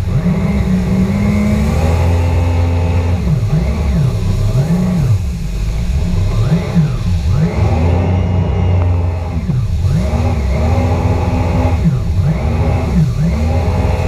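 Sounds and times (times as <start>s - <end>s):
jet ski engine revving: 0.0s - 14.0s
rush of spray: 0.0s - 14.0s.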